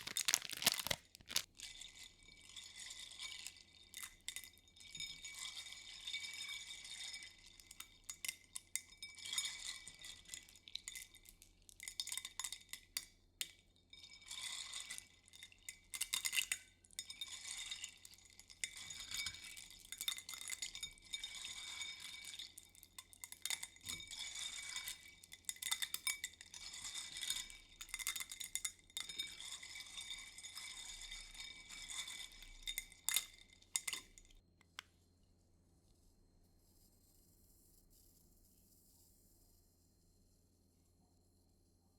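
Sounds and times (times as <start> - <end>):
clinking and scratching on small objects: 0.0 - 34.4.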